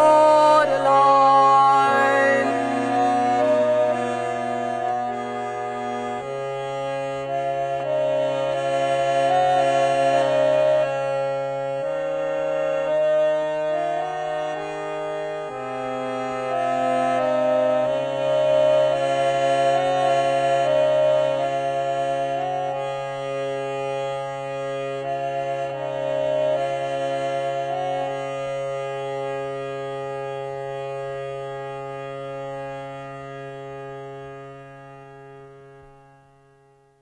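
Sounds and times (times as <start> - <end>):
harmonium chords over low drone: 0.0 - 37.0.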